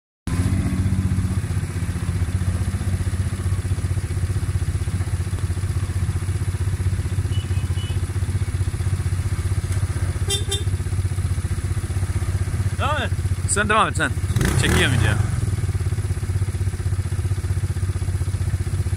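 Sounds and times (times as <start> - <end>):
atv engine idling: 0.3 - 18.9.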